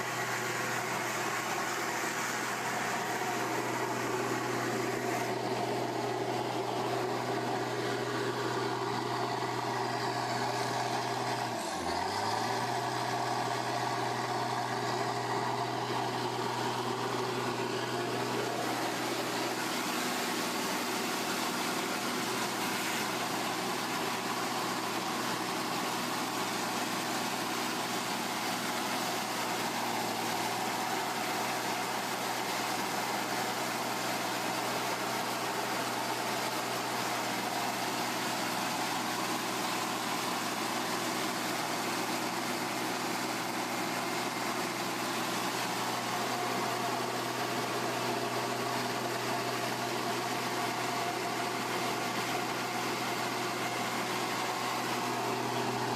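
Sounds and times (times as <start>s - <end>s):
machine humming and hissing: 0.0s - 55.9s.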